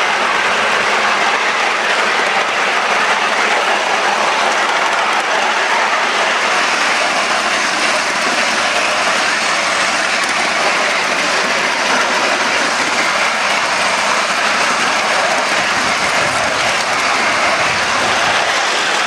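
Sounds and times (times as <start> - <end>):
model steam locomotive running: 0.0 - 19.0.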